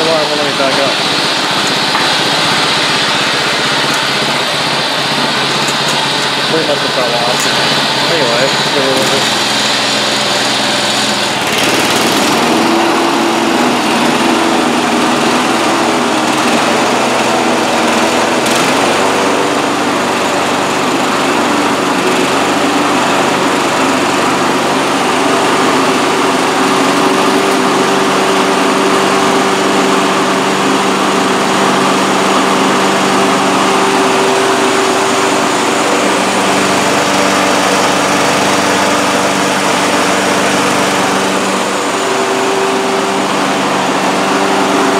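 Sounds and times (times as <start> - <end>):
lawn mower engine running: 0.0 - 44.9.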